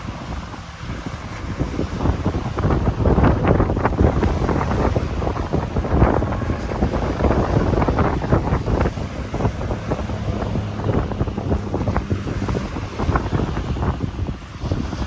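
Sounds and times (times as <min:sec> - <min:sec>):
waves on a beach: 0:00.0 - 0:15.0
wind blowing on microphone: 0:00.0 - 0:15.0.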